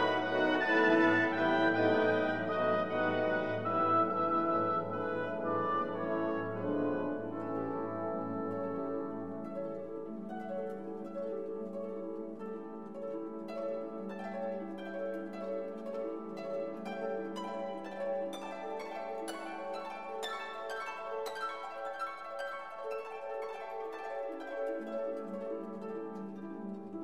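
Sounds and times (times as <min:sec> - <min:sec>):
ambient plucked music: 0:00.0 - 0:27.0.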